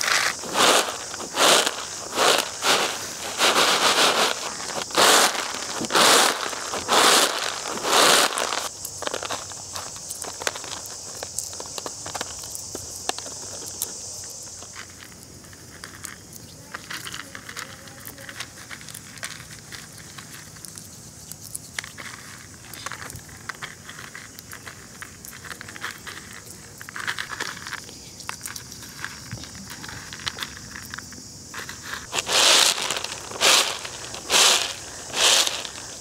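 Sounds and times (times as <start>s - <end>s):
peanuts rubbed on bamboo tray: 0.0s - 36.0s.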